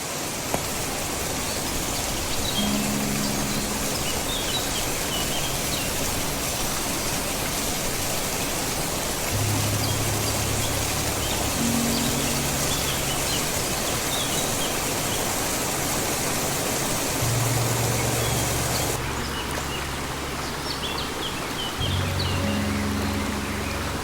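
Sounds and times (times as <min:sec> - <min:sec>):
river water rushing: 0:00.0 - 0:24.0
small birds chirping: 0:01.4 - 0:08.6, 0:09.2 - 0:15.7, 0:17.0 - 0:24.0.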